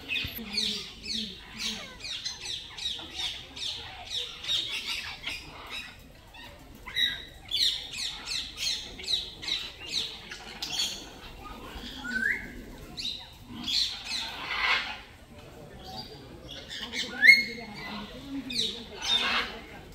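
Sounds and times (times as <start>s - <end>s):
parrots chirping: 0.0s - 12.4s, 13.0s - 15.2s, 15.8s - 19.7s.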